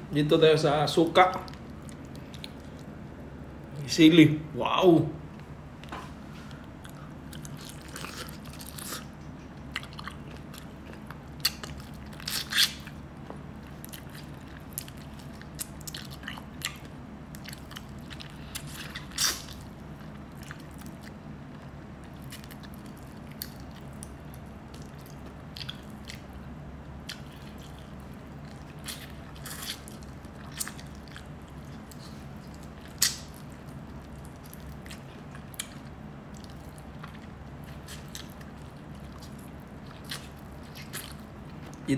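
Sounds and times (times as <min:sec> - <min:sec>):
steady low hum: 0:00.0 - 0:41.9
chewing and biting: 0:01.1 - 0:03.0, 0:06.1 - 0:41.9.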